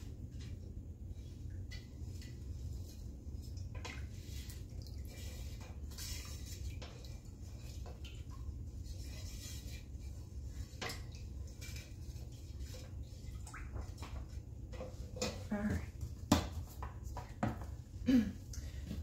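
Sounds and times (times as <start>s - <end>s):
liquid swishing in a pot: 0.0s - 19.0s.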